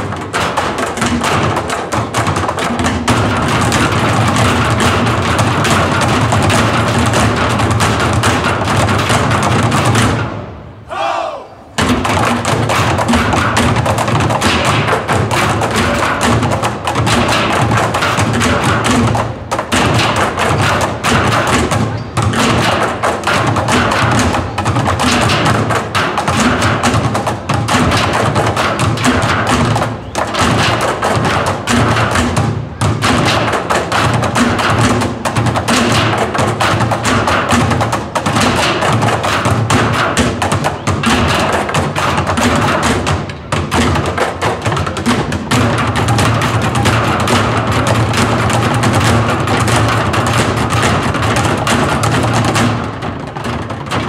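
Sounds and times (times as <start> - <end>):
drumming on metal drums and barrels: 0.0 - 10.8, 11.7 - 54.0.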